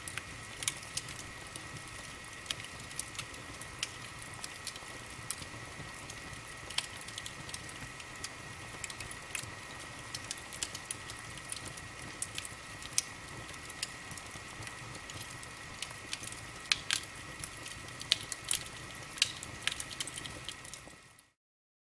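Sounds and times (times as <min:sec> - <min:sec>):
wood fire crackling: 0:00.0 - 0:21.4.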